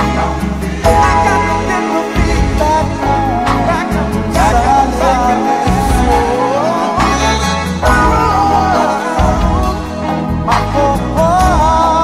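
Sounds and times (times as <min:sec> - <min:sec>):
soul music: 0:00.0 - 0:12.0.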